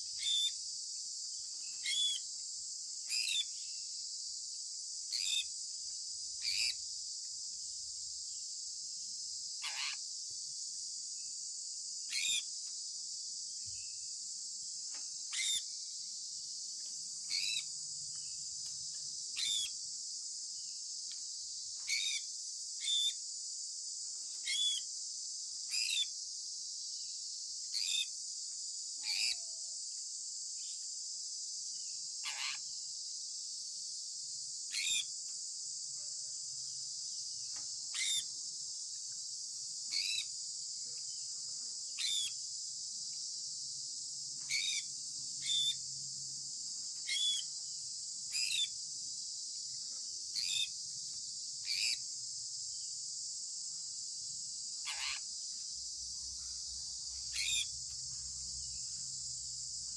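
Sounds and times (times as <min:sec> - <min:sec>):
crickets humming: 0:00.0 - 0:59.9.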